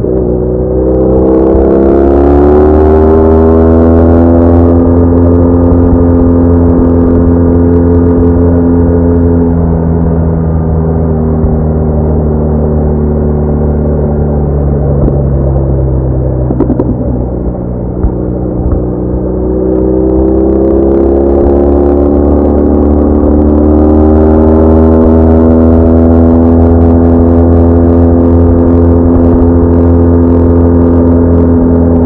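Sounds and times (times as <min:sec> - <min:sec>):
low wind rumble: 0:00.0 - 0:32.0
motorcycle engine running: 0:00.0 - 0:32.0.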